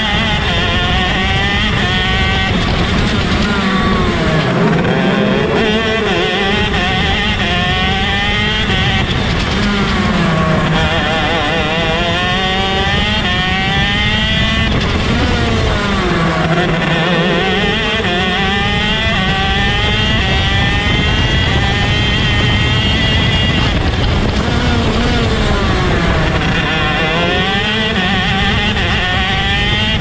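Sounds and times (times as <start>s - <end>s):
kart engine revving through gears: 0.0s - 30.0s
other kart engines running: 0.0s - 30.0s.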